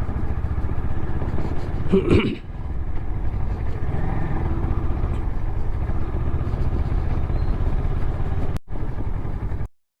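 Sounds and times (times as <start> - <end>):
motorcycle engine rumble: 0.0 - 9.7.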